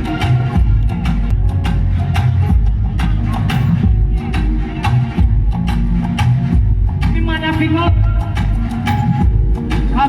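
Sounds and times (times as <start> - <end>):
loud dancehall music: 0.0 - 10.0.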